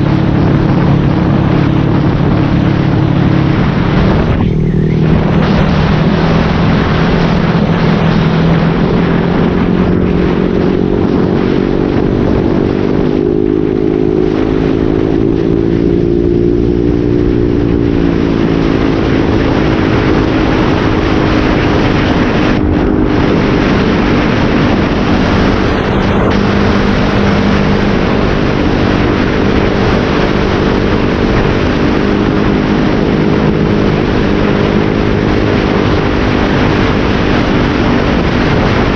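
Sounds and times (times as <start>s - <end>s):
motorcycle exhaust note: 0.0s - 38.9s
steady rushing noise: 0.0s - 38.9s.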